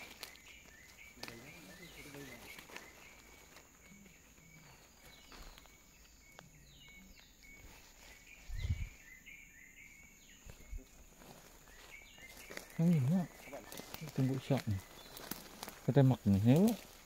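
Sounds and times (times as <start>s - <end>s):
forest birds chirping: 0.0s - 17.0s.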